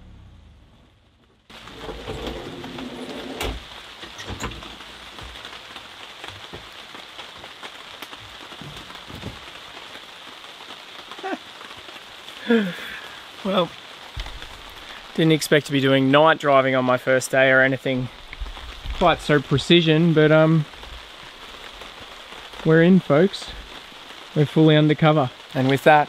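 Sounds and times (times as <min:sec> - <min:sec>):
steady rain falling: 0:00.1 - 0:26.0
rain drips and taps: 0:01.1 - 0:26.0.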